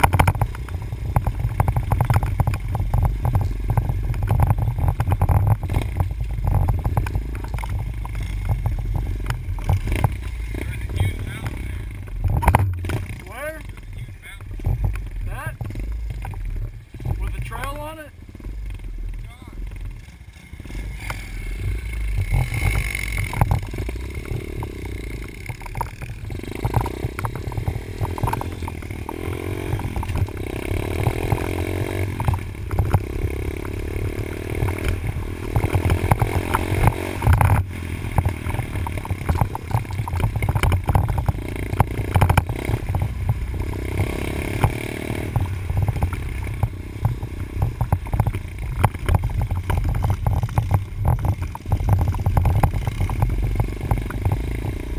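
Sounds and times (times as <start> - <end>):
knocks and rattles: 0.0 - 17.8, 21.1 - 54.9
dirt bike engine revving: 0.0 - 54.9.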